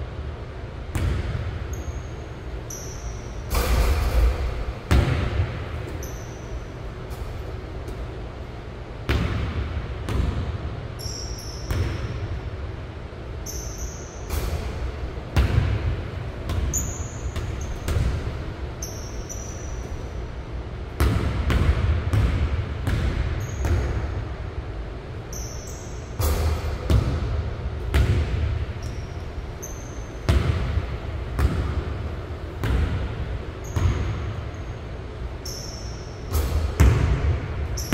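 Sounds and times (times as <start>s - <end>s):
ball striking hoop: 0.9s - 8.2s, 9.0s - 12.3s, 13.4s - 20.1s, 20.9s - 24.2s, 26.2s - 34.7s, 35.4s - 37.9s
basketball bouncing on wooden court: 0.9s - 8.2s, 9.0s - 12.4s, 13.4s - 20.1s, 20.9s - 24.3s, 25.3s - 34.7s, 35.4s - 37.9s
sneakers squeaking: 0.9s - 24.3s, 25.1s - 37.9s.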